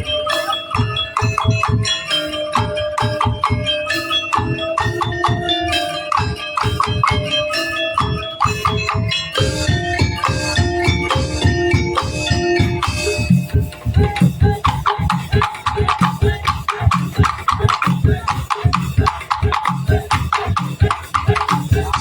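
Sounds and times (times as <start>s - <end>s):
bamboo slit drums and drums beating: 0.0s - 22.0s
pitched percussion melody: 0.0s - 22.0s.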